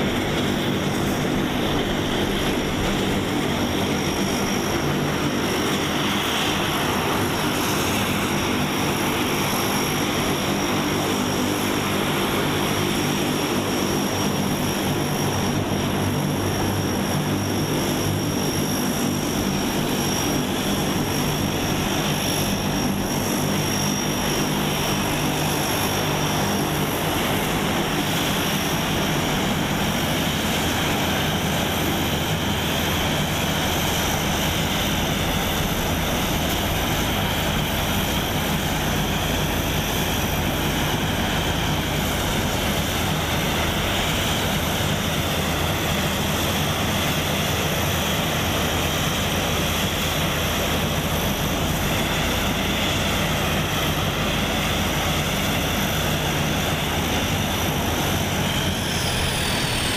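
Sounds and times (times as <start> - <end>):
turboprop engines idling: 0.0 - 59.9.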